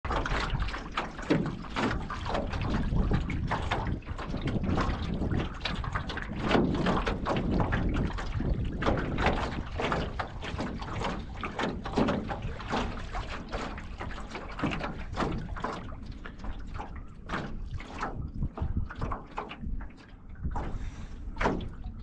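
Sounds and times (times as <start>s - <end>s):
water splashing against metal hull: 0.0s - 22.0s
low wind rumble on microphone: 0.1s - 22.0s.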